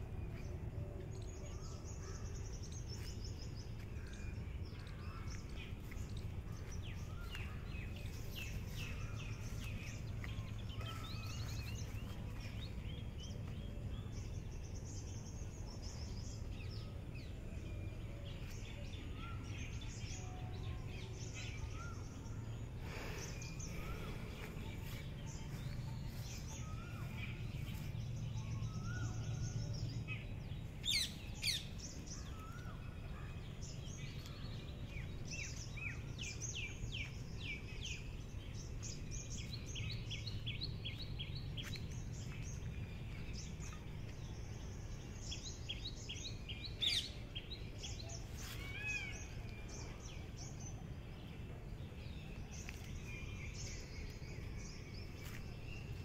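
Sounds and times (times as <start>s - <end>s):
steady low rumble: 0.0s - 48.4s
small birds chirping and trilling: 0.0s - 56.0s.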